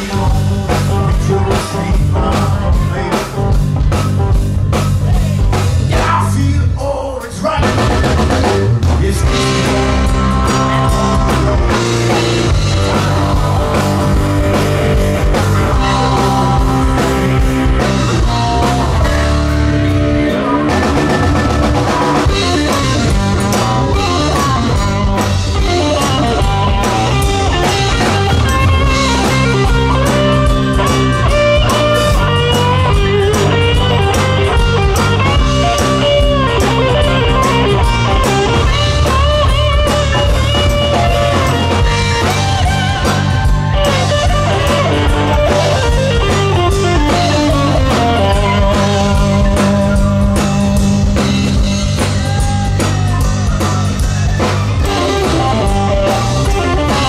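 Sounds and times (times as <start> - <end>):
man singing: 0.0 - 14.5, 15.2 - 57.0
busy drumming: 0.0 - 57.0
rock band playing: 0.0 - 57.0.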